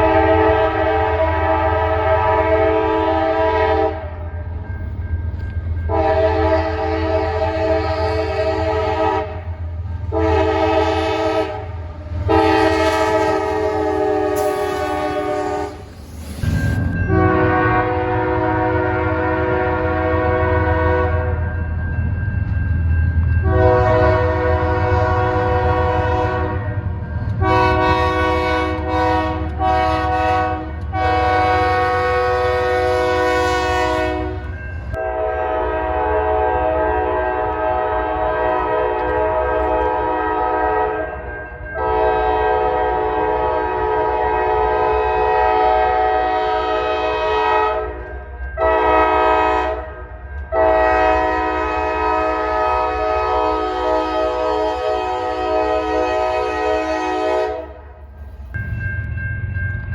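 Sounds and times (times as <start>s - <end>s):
locomotive air horn blasts: 0.0s - 4.2s, 5.9s - 15.9s, 17.1s - 21.4s, 23.4s - 41.2s, 41.8s - 48.0s, 48.6s - 57.9s
moving train rumble: 0.0s - 59.9s.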